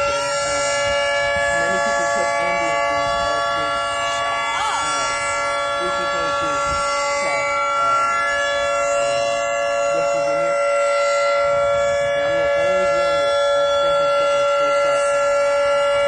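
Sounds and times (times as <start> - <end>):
tornado siren steady chord: 0.0 - 16.0.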